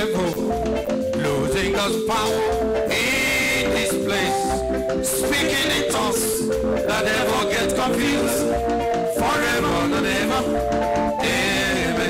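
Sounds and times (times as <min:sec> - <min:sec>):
gospel band music: 0:00.0 - 0:12.0.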